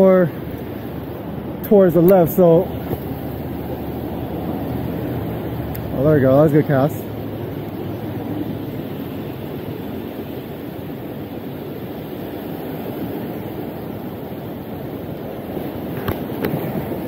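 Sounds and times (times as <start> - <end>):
waves washing up sandy shore: 0.0 - 17.0.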